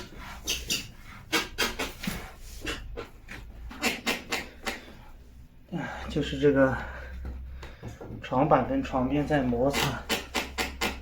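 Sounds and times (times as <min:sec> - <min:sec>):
wooden bed frame creaking: 0:00.0 - 0:05.1, 0:06.5 - 0:11.0.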